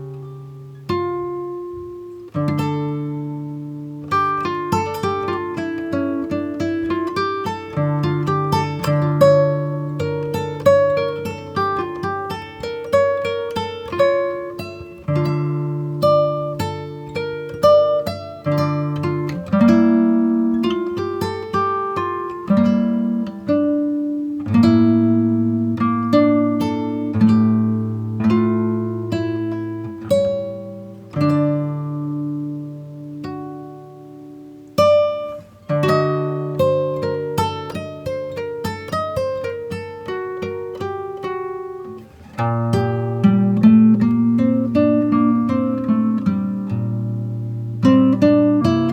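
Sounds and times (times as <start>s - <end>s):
acoustic guitar picking: 0.0s - 48.9s.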